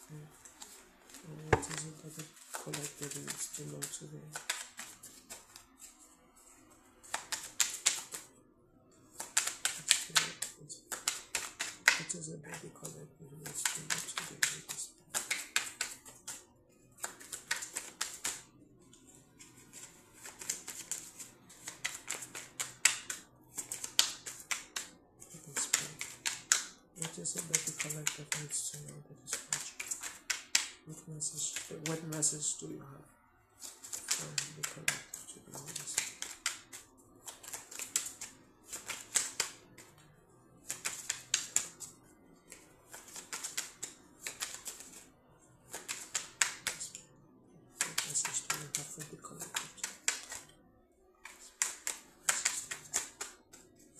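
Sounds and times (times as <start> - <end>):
cards being shuffled: 0.3 - 8.3, 9.1 - 32.5, 33.6 - 40.0, 40.6 - 45.1, 45.7 - 47.0, 47.7 - 50.5, 51.2 - 53.9.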